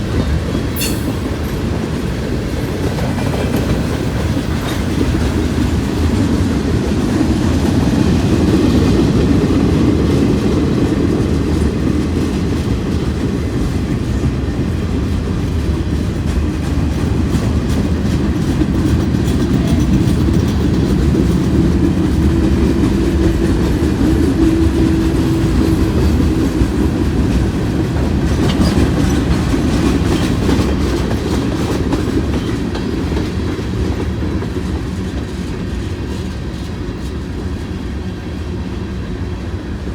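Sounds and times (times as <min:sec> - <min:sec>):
low rumble of train cars: 0:00.0 - 0:39.9
wheels clicking over rail joints: 0:00.1 - 0:35.4.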